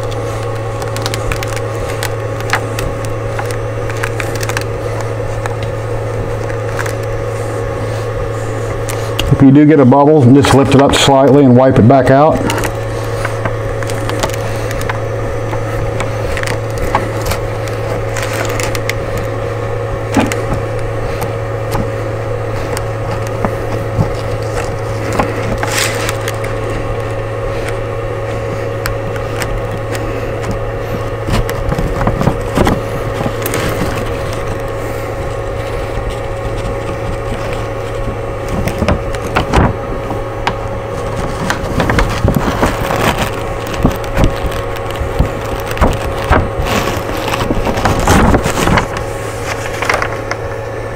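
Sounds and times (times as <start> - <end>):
crackles and taps: 0.0 - 9.4, 12.3 - 50.5
hand rubbing magnetic sheet: 0.0 - 50.9
steady low hum: 0.0 - 50.9.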